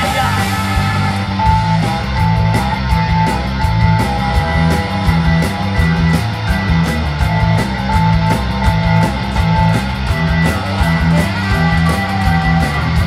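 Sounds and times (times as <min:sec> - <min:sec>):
ska punk band playing: 0:00.0 - 0:13.0.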